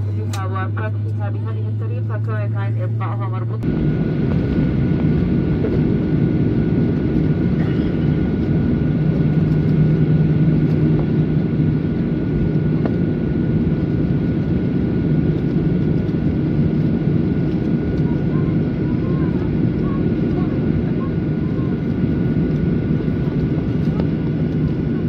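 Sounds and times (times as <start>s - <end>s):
jet engine cabin hum: 0.0s - 25.0s.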